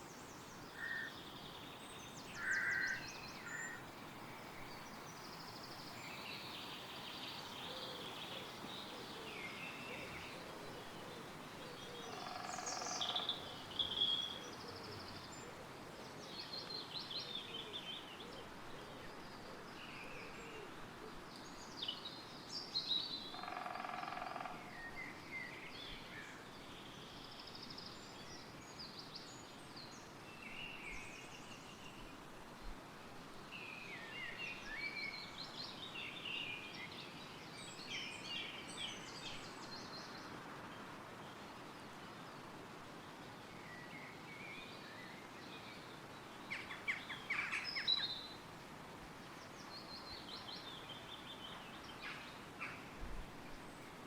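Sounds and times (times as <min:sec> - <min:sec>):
wind rustling in trees: 0:00.0 - 0:54.0.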